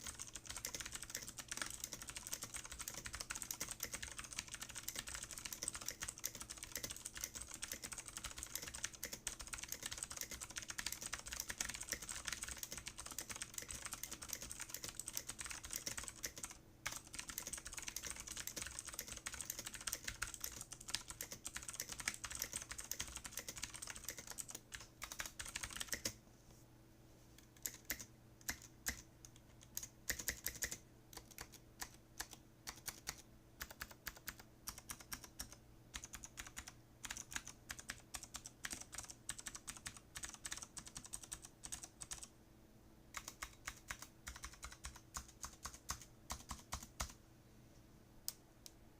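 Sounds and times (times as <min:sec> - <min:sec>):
mechanical keyboard typing: 0:00.0 - 0:26.2, 0:27.5 - 0:42.3, 0:43.2 - 0:47.2.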